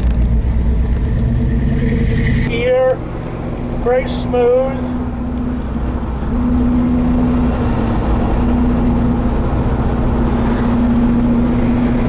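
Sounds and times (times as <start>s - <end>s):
road rumble: 0.0s - 12.0s
truck engine droning: 0.0s - 12.0s.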